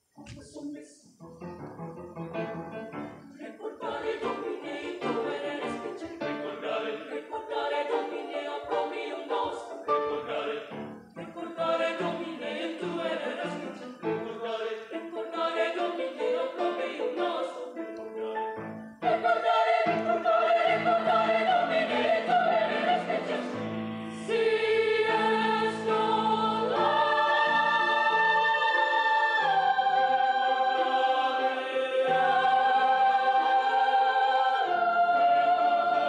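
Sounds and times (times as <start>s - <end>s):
youth choir singing: 3.0s - 36.0s.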